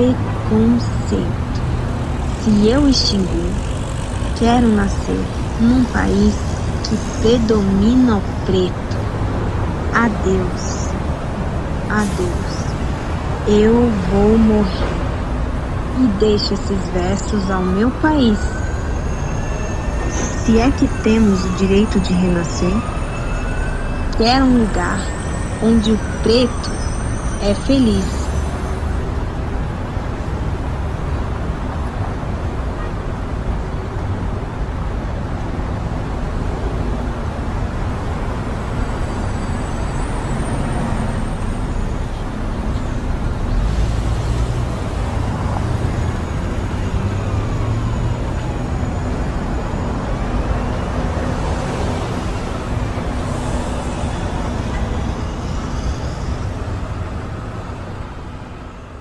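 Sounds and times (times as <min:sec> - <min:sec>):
traffic rumble: 0:00.0 - 0:59.0.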